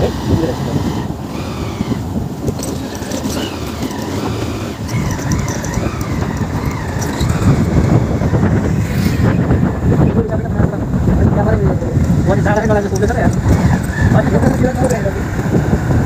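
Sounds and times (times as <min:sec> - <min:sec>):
vehicle road noise: 0:00.0 - 0:16.0.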